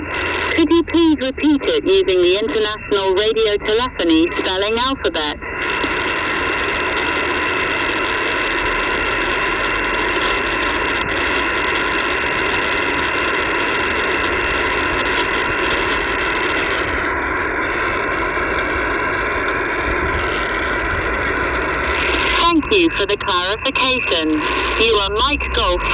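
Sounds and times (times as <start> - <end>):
radio receiver hiss and static: 0.0 - 25.9.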